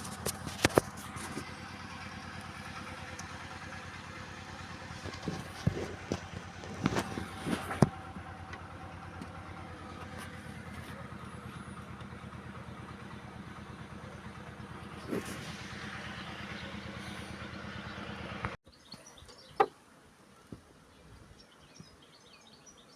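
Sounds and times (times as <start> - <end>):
engine idling: 0.0 - 18.6.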